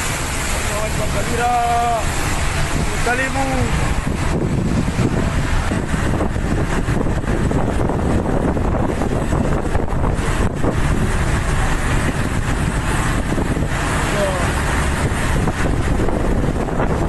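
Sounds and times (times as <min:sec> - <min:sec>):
sea waves rushing: 0:00.0 - 0:17.0
wind buffeting microphone: 0:00.0 - 0:17.0.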